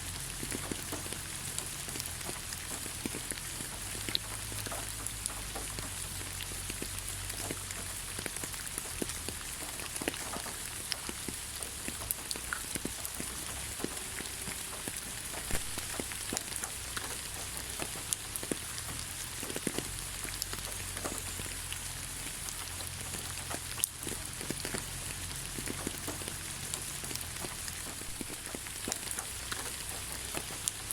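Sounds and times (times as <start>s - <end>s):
rain hissing on ground: 0.0s - 30.9s
raindrops ticking: 0.0s - 30.9s.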